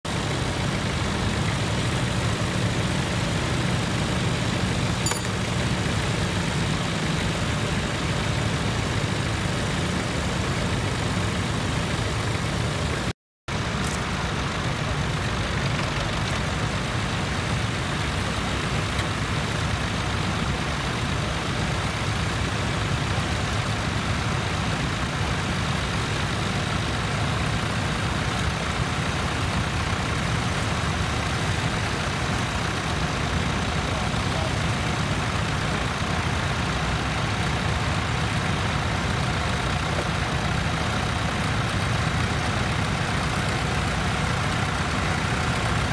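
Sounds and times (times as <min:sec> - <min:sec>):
tractor engines running: 0:00.0 - 0:45.9.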